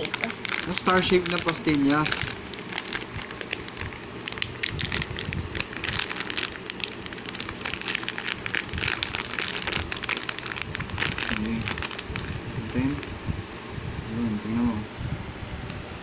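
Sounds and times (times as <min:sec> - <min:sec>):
plastic candy wrapper crinkling: 0:00.0 - 0:13.1.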